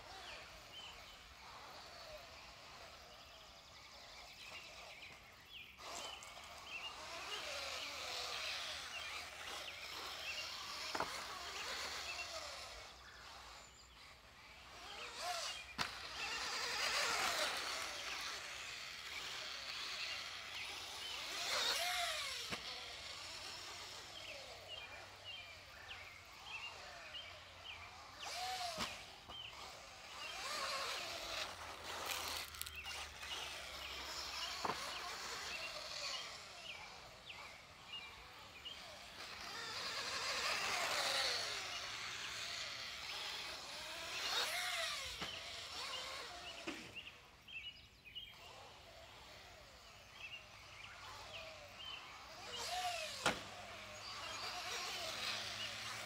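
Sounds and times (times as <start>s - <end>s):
birds chirping: 0.0s - 56.0s
passing motor whines: 0.0s - 56.0s.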